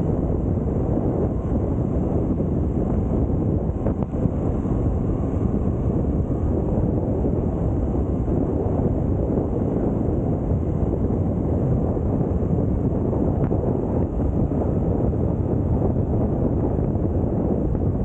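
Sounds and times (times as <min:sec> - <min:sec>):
low vehicle rumble: 0:00.0 - 0:18.0
wind buffeting microphone: 0:00.0 - 0:18.0.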